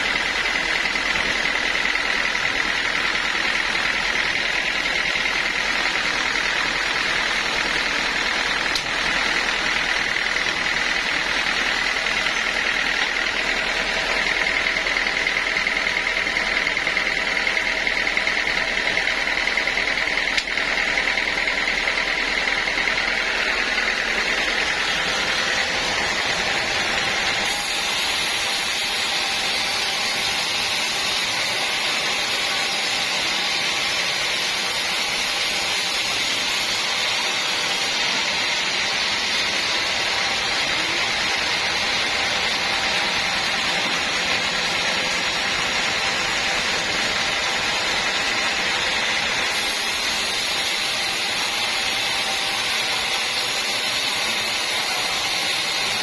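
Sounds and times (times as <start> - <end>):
high machine whine: 0.0 - 56.0
sawmill machine noise: 0.0 - 56.0.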